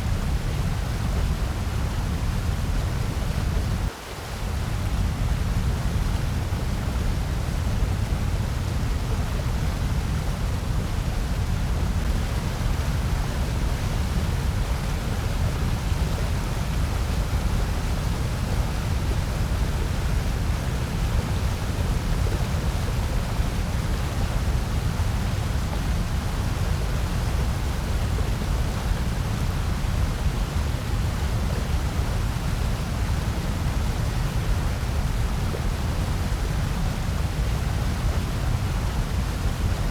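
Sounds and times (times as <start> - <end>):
white noise with low rumble: 0.0 - 39.9.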